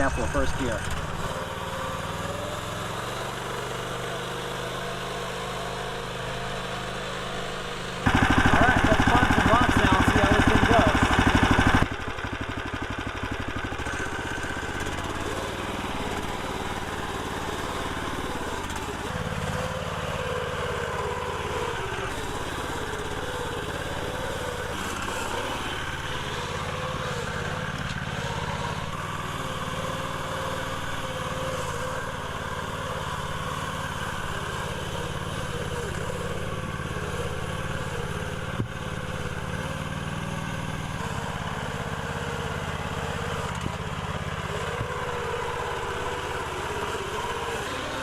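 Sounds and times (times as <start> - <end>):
small engine running: 0.0 - 48.0.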